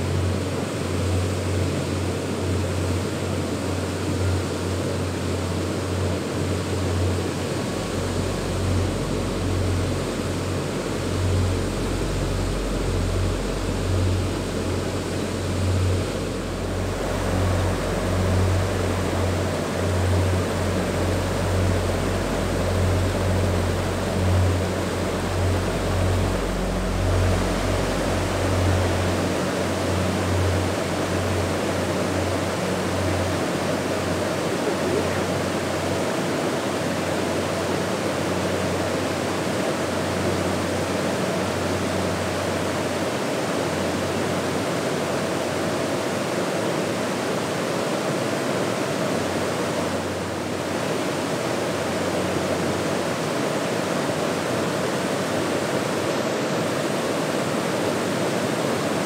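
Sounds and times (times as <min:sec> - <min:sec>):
river rapids rushing: 0:00.0 - 0:59.0.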